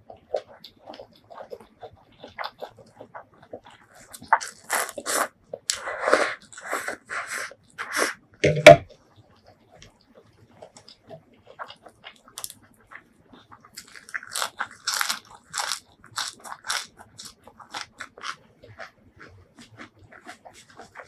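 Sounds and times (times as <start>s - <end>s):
crunching of raw vegetables: 0.1s - 8.2s, 10.6s - 21.0s.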